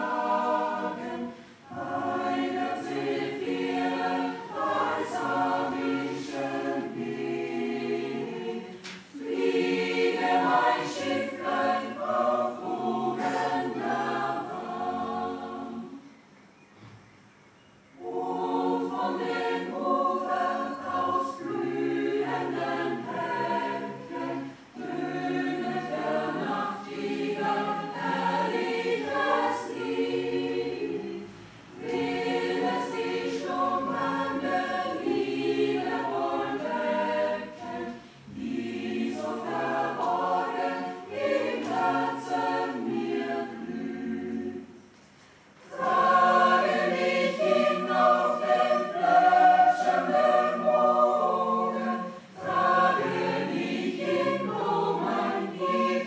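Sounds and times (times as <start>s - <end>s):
mixed choir singing: 0.0s - 16.1s, 17.9s - 45.0s, 45.6s - 56.0s.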